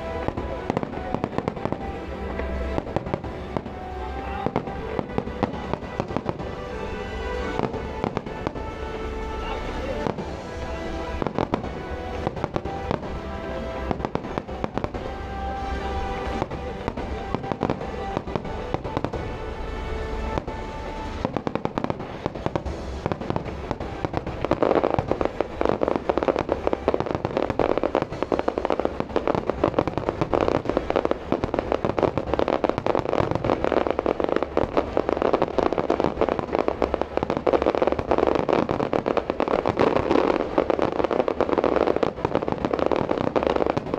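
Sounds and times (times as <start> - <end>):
fireworks bursts and bangs: 0.0 - 43.9
music: 0.0 - 43.9.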